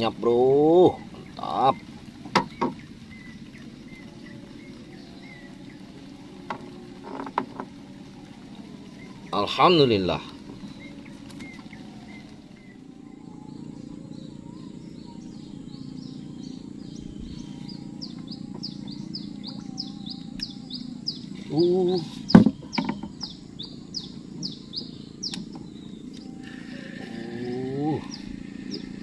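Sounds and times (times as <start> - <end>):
bird calling high falling notes: 0.0 - 29.0
steady low hum: 0.0 - 29.0
wavering pitched sound: 2.8 - 29.0.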